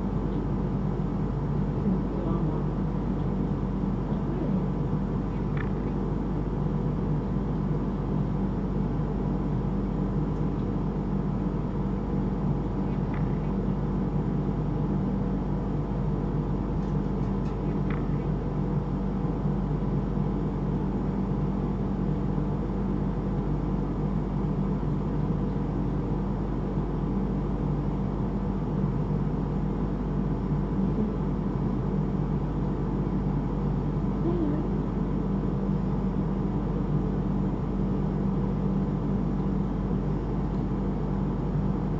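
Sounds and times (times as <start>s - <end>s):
low droning hum: 0.0s - 41.9s.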